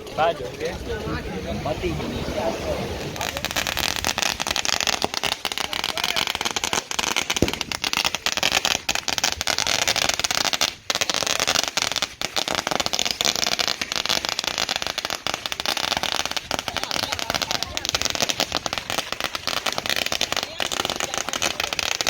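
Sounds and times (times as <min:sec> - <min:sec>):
firecrackers crackling: 0:00.0 - 0:22.0.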